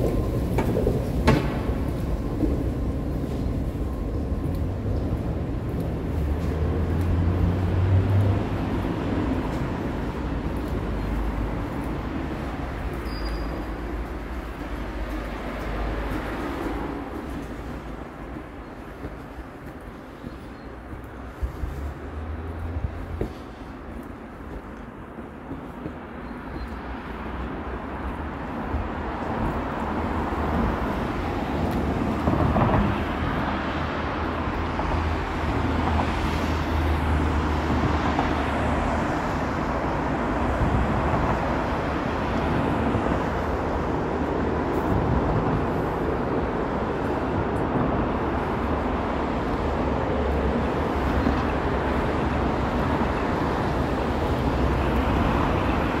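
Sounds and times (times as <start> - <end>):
city street traffic rumble: 0.0 - 56.0.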